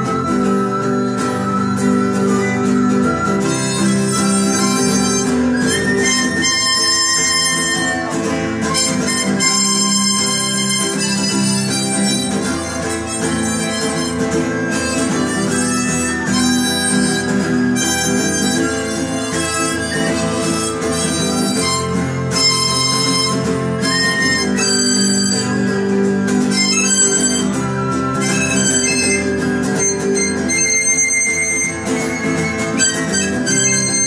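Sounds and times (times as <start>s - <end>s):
harmonica playing: 0.0s - 34.0s
strummed acoustic guitars: 0.0s - 34.0s.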